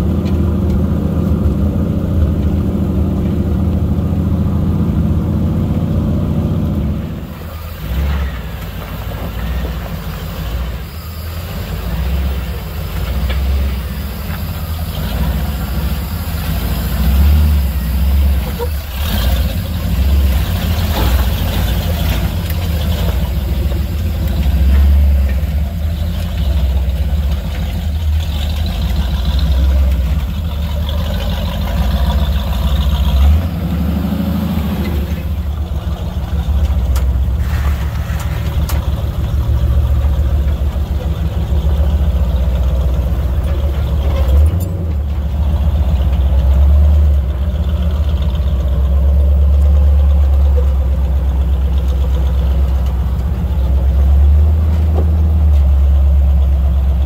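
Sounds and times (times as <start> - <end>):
engine low rumble: 0.0 - 57.0.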